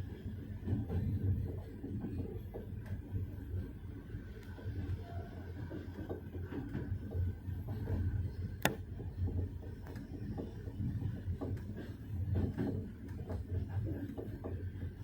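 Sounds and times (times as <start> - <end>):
railway carriage rumbling: 0.0 - 15.0.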